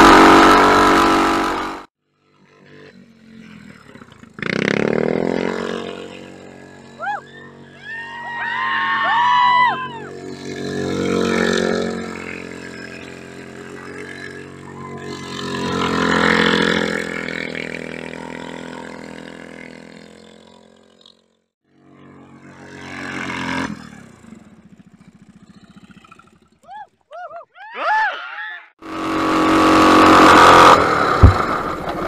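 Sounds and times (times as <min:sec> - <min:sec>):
engine revving up and down: 0:00.0 - 0:26.6, 0:28.8 - 0:32.0.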